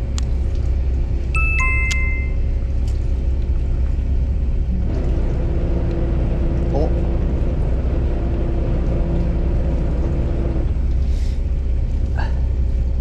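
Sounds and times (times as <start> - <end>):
boat engine rumble: 0.0 - 13.0
steady hum: 0.0 - 13.0.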